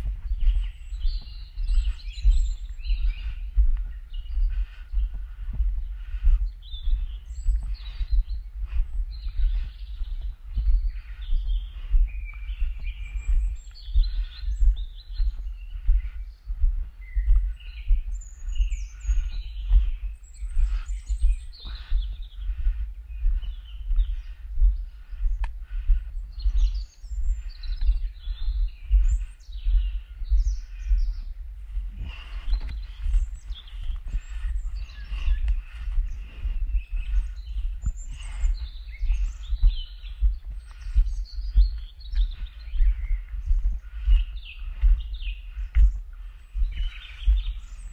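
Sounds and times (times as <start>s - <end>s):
small birds chirping: 0.0s - 47.9s
wind buffeting microphone: 0.0s - 47.9s.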